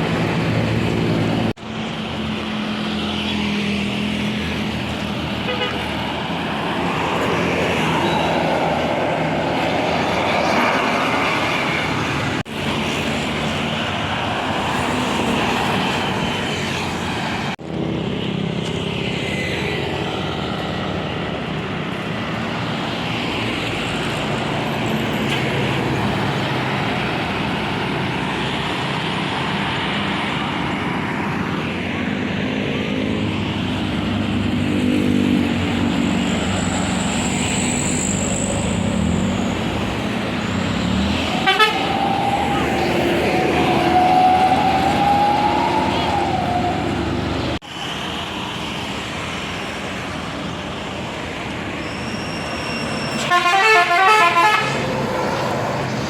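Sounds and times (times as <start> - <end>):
buses passing: 0.0 - 56.0
road traffic: 0.0 - 56.0.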